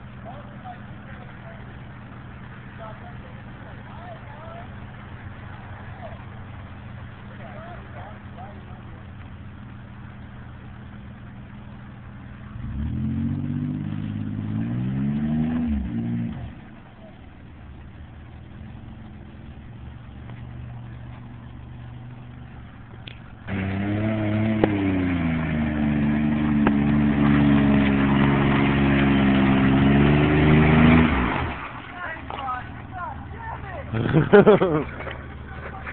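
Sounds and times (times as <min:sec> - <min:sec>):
pickup engine idling and revving: 0:00.0 - 0:35.9.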